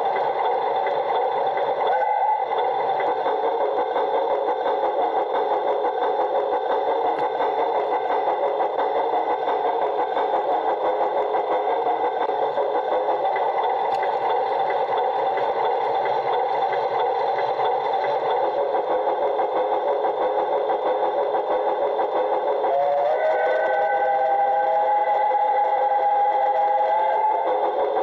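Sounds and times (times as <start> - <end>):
model train motor whirring: 0.0 - 28.0.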